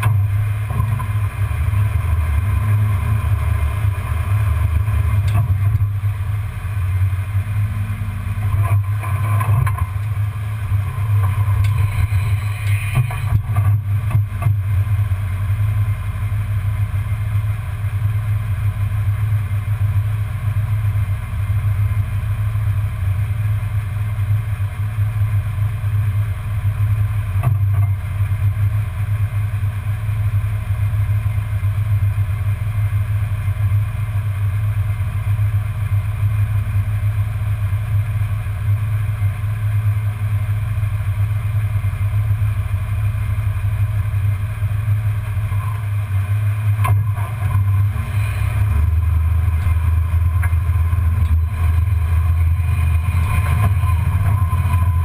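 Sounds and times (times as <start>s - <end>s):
engine exhaust note at low revs: 0.0s - 55.0s.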